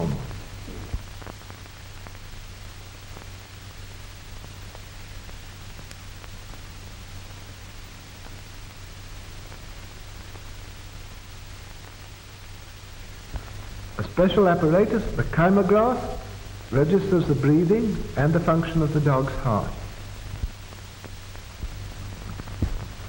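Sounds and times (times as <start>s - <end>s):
film soundtrack hiss and hum: 0.0s - 23.0s.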